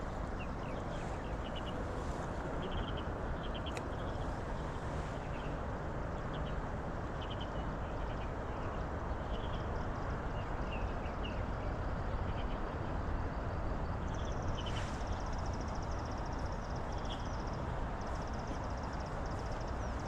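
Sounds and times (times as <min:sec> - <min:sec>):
low outdoor noise: 0:00.0 - 0:20.0.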